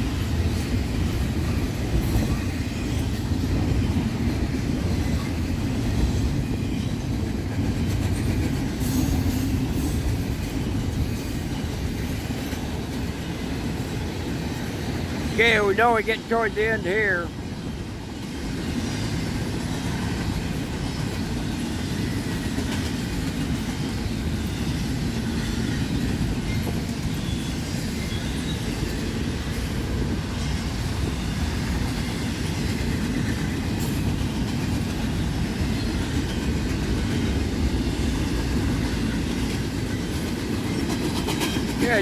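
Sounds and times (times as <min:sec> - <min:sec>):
train wheels rolling on rail: 0:00.0 - 0:42.0.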